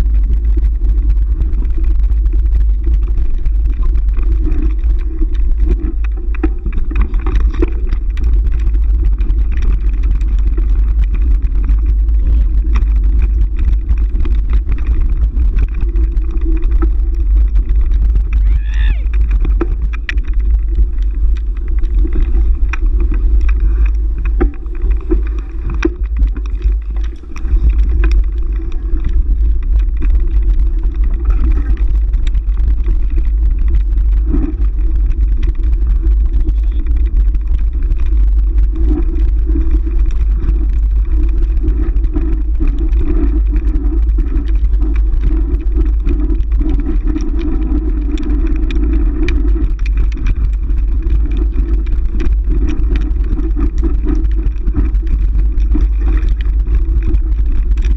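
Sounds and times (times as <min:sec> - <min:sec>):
wind rumble on microphone: 0:00.0 - 0:57.9.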